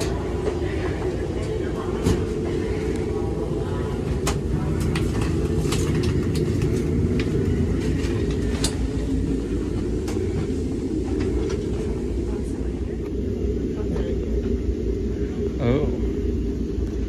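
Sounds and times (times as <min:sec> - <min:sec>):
low rumble in rail coach: 0:00.0 - 0:17.0.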